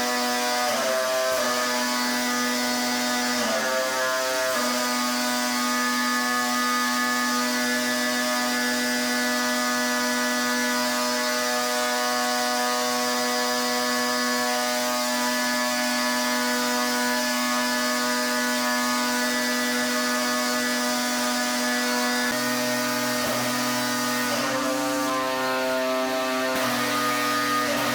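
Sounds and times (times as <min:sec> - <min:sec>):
pressure washer drone: 0:00.0 - 0:27.9.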